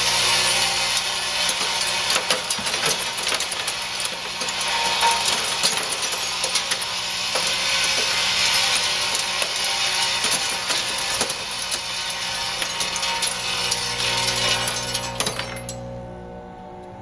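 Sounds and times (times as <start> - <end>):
metal pieces clinking and rattling: 0.4 - 15.8.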